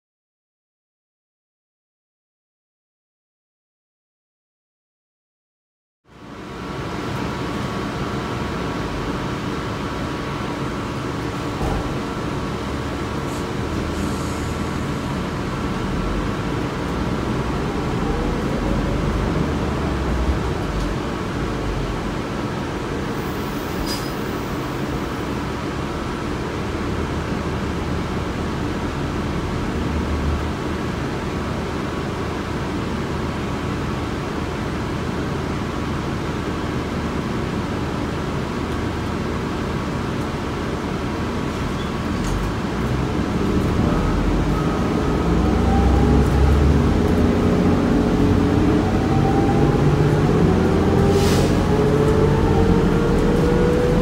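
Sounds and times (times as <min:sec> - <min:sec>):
bus engine running: 0:06.1 - 0:54.0.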